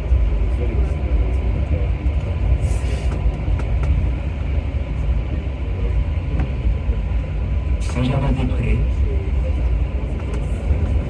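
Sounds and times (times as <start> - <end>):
metro train rumbling in tunnel: 0.0 - 11.0.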